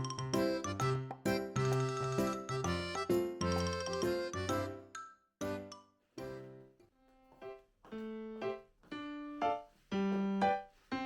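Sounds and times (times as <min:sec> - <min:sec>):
light piano melody: 0:00.0 - 0:11.0.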